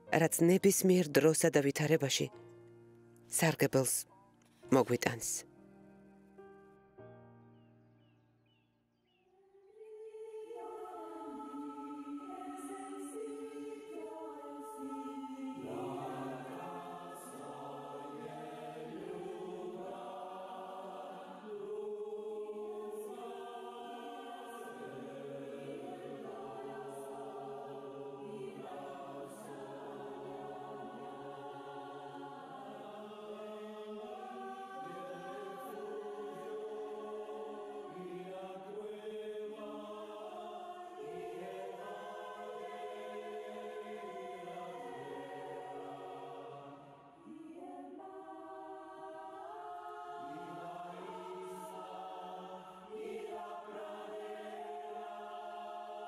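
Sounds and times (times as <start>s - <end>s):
choir singing sustained chords: 0.0s - 56.0s.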